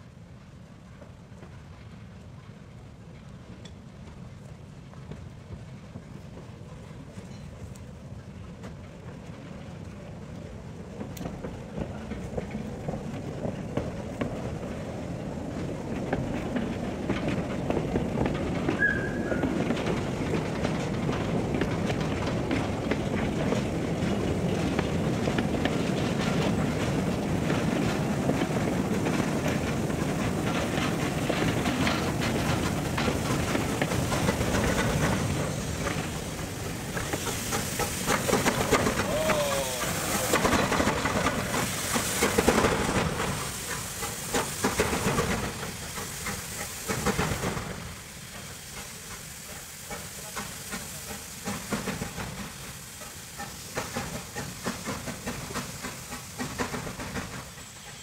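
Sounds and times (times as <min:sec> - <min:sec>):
steam locomotive working: 0:00.0 - 0:58.0
wagons rattling on track: 0:00.4 - 0:58.0.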